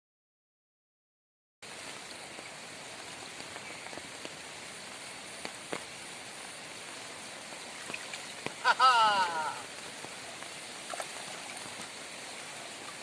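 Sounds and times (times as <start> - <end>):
steady rain falling: 1.6 - 13.0.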